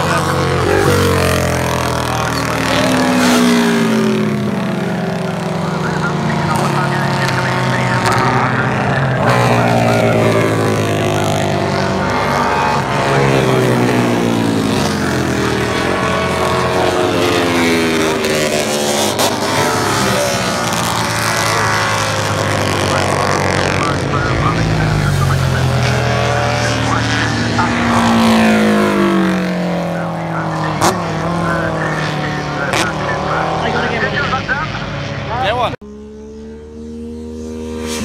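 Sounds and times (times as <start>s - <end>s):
racing motorcycle engines revving: 0.0s - 38.0s.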